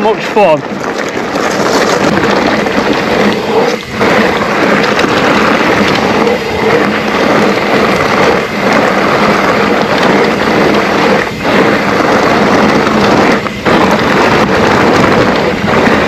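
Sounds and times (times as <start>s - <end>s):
bike tyres on rough track: 0.0s - 16.0s
wind on microphone: 0.0s - 16.0s.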